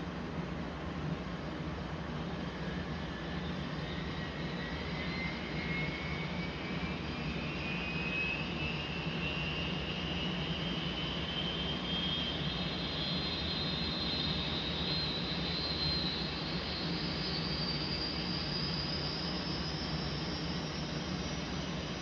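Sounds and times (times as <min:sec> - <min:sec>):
steady low hum: 0:00.0 - 0:22.0
turbine whine rising in pitch: 0:00.0 - 0:22.0.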